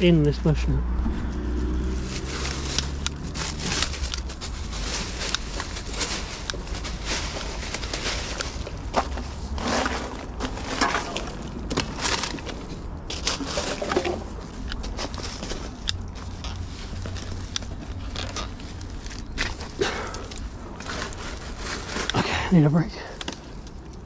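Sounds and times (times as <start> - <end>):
rustling twigs and leaves: 0.8 - 24.0
plastic litter crinkling: 1.6 - 23.7.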